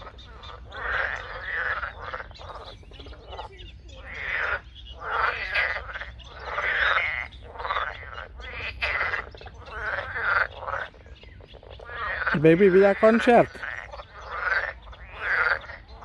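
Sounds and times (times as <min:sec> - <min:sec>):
frogs calling: 0:00.0 - 0:16.0.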